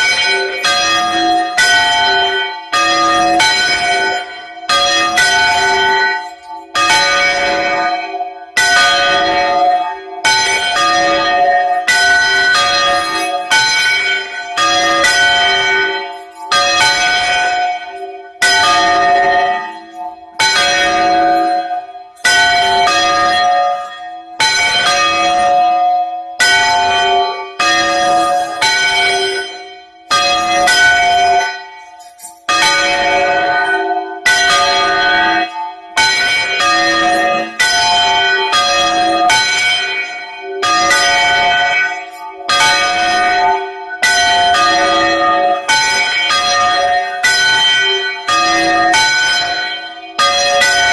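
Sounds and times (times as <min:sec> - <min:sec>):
church bells ringing: 0:00.0 - 0:50.9.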